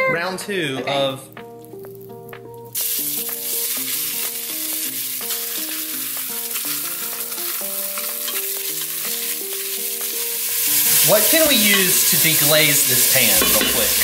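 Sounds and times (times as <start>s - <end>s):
chicken sizzling in hot oil: 1.7s - 14.0s.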